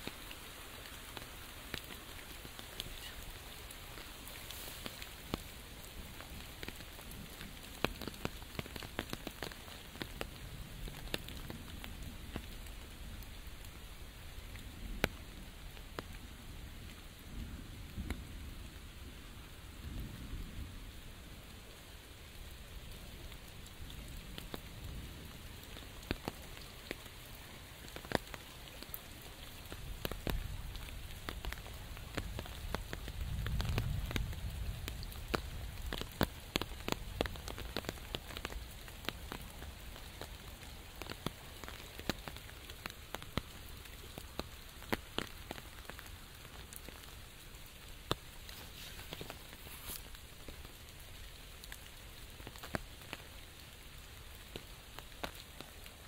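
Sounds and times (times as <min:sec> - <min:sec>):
raindrops tapping on umbrella: 0:00.0 - 0:13.8, 0:14.4 - 0:16.2, 0:17.0 - 0:18.3, 0:22.9 - 0:56.0
steady rain: 0:00.0 - 0:56.0.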